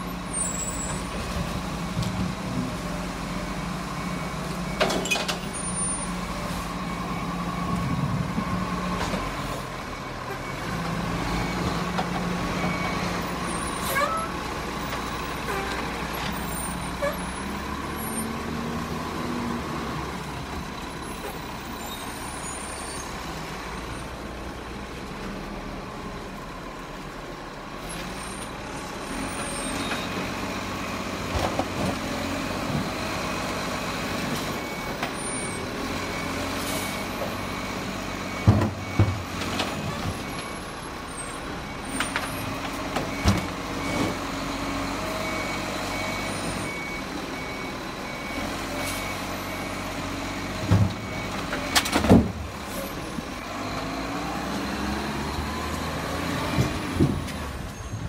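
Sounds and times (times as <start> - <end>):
truck engine hum: 0.0 - 58.0.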